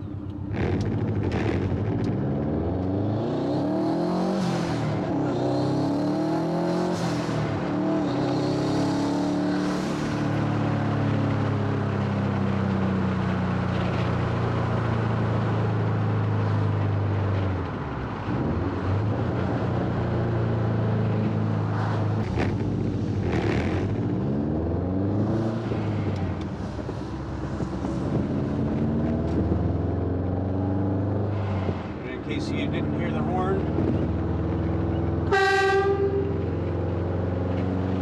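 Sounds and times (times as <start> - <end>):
car engine and exhaust driving: 0.0 - 38.0.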